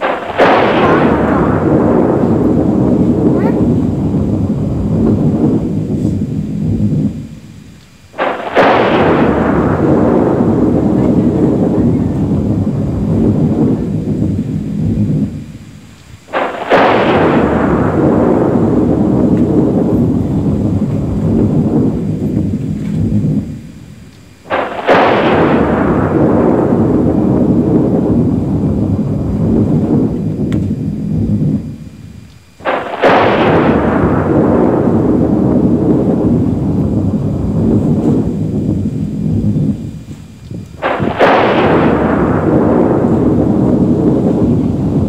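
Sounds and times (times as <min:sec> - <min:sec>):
thunder crack and rumble: 0:00.0 - 0:45.0.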